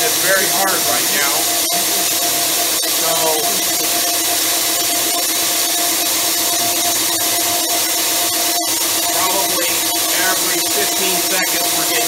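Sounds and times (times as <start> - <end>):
core drill grinding rock: 0.0 - 12.0
machine hum: 0.0 - 12.0.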